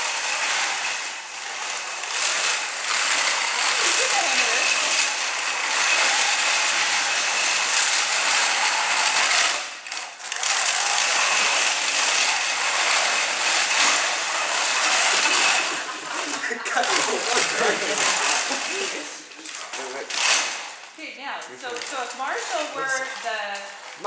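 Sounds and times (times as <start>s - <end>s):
robot drive motors whirring: 0.0s - 24.0s.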